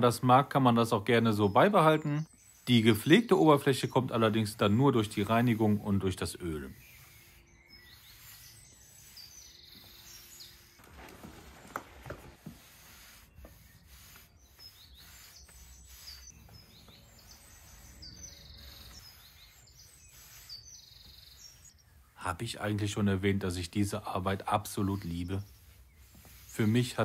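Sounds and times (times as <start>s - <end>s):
small birds chirping: 0.0s - 27.0s
brush swishing on wooden boards: 2.5s - 27.0s.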